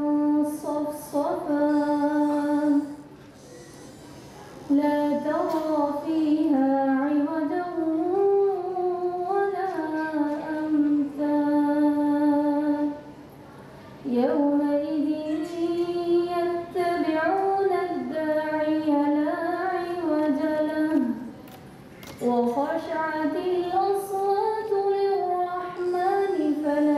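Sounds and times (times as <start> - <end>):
woman chanting recitation: 0.0 - 3.1, 4.6 - 13.2, 14.0 - 21.4, 22.1 - 26.9.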